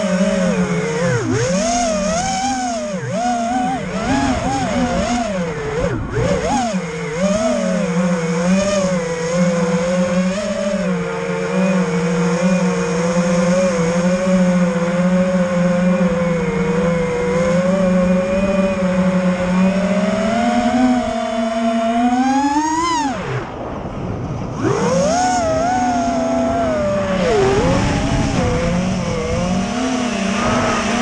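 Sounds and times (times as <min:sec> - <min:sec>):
quadcopter propellers whining: 0:00.0 - 0:31.0.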